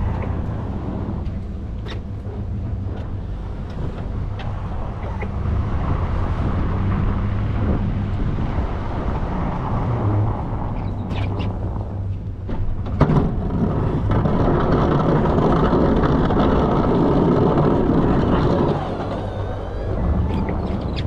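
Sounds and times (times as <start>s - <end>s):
truck engine and driving noise: 0.0s - 21.0s.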